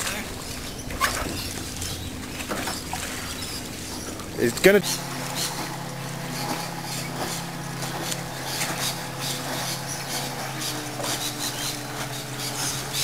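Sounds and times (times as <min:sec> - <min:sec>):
low engine drone: 0:00.0 - 0:13.0
water splashing against dinghy: 0:00.0 - 0:13.0.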